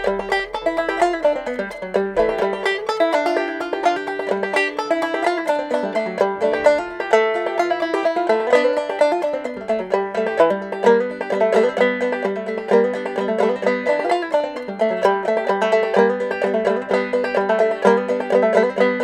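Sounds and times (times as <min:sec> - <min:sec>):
banjo playing old-time tune: 0:00.0 - 0:19.0.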